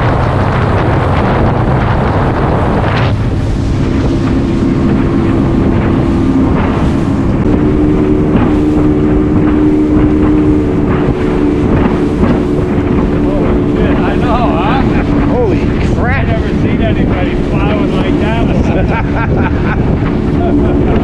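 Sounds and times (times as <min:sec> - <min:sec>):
motorboat engine drone: 0:00.0 - 0:21.0
rushing water: 0:00.0 - 0:21.0
wind on microphone: 0:00.0 - 0:21.0.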